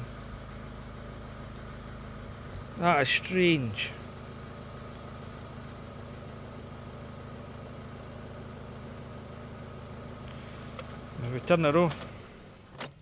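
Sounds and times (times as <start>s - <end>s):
diesel engine idling: 0.0s - 12.8s.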